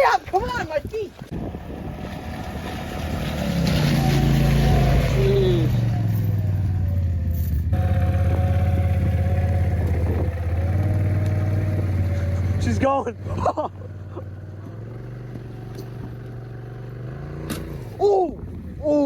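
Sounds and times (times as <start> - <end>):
utility vehicle engine revving: 1.3 - 18.8.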